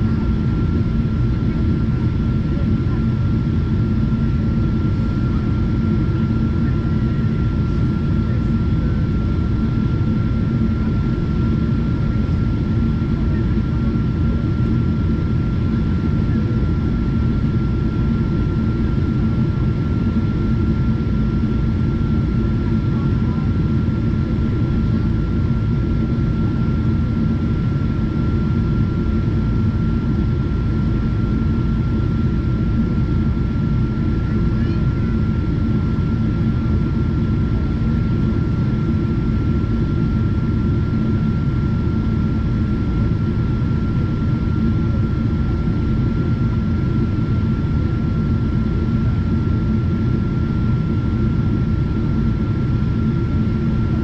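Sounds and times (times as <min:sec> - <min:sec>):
jet engines and airflow rumble: 0:00.0 - 0:54.0.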